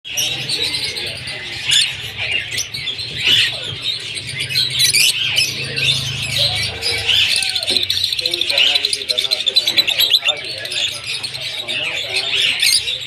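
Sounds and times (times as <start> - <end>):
lovebirds chattering: 0.0 - 13.0.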